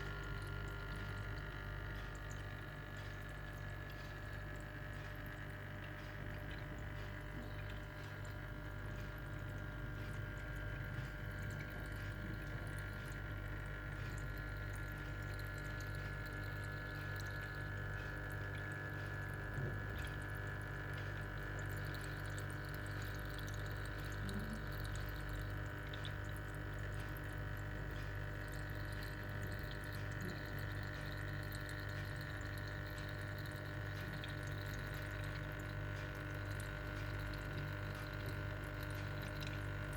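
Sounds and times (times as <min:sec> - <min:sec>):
steady low hum: 0:00.0 - 0:39.9
water trickling and dripping: 0:00.0 - 0:39.9.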